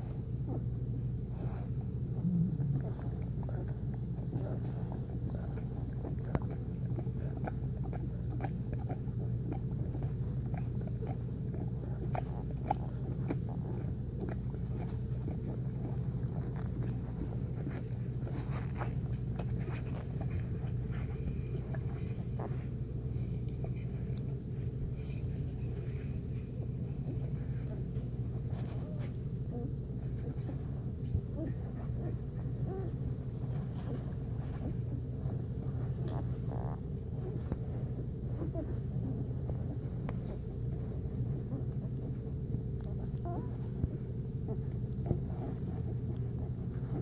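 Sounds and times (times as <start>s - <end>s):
faint high whine: 0.0s - 47.0s
steady low hum: 0.0s - 47.0s
puppies clicks and snuffles: 2.7s - 47.0s.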